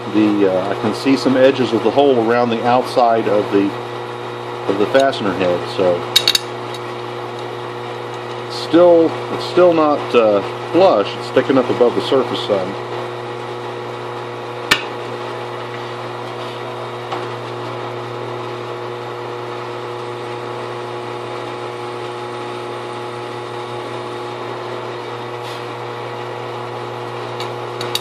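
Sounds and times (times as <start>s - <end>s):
drill press motor running: 0.0s - 28.0s.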